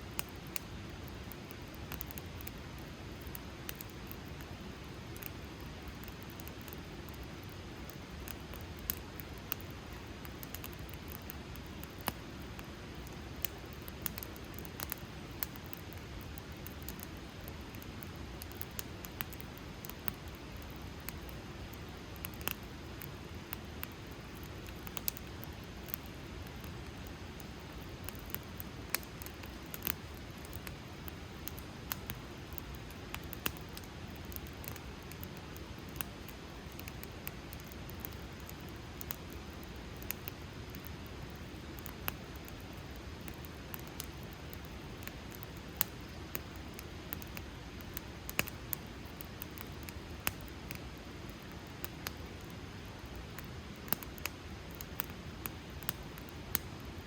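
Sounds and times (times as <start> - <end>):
wood crackling and popping: 0.0 - 57.0.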